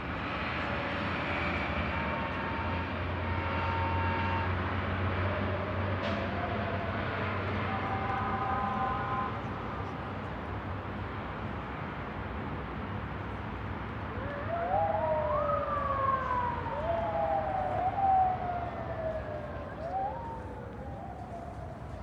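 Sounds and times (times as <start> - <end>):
distant city traffic hum: 0.0 - 22.0
emergency siren wailing: 0.1 - 10.2, 14.0 - 22.0.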